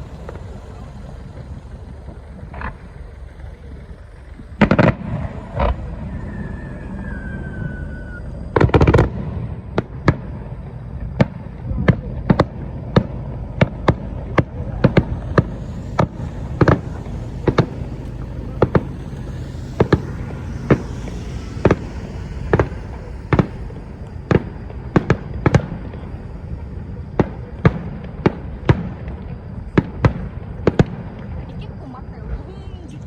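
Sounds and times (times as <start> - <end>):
low rumble: 0.0 - 30.4
fireworks bursting: 0.0 - 31.5.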